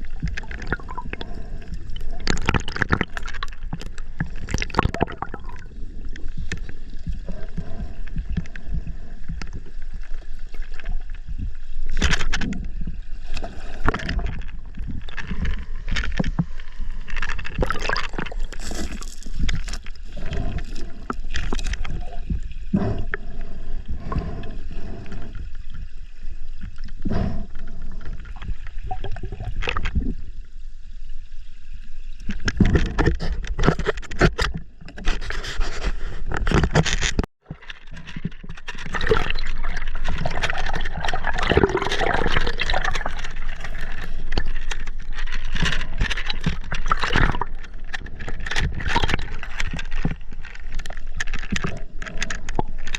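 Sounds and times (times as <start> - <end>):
river water sloshing and gurgling: 0.0 - 30.2, 32.2 - 52.9
water splashes and bumps: 0.0 - 30.4, 32.1 - 52.9.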